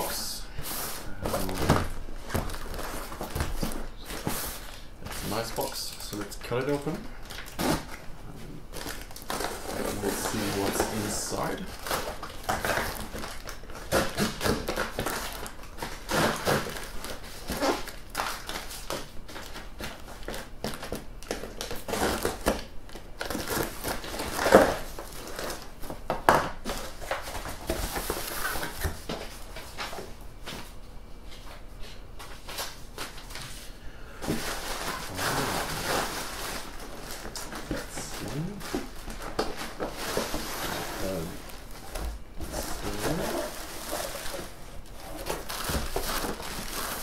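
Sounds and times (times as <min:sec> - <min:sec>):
plastic wrapping crinkling: 0:01.0 - 0:30.1, 0:32.3 - 0:47.0.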